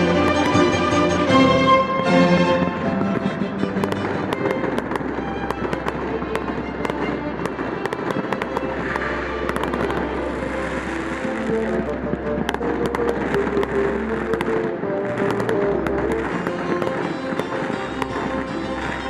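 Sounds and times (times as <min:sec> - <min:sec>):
fireworks crackling and popping: 0:00.0 - 0:19.0
music playing: 0:00.0 - 0:19.0.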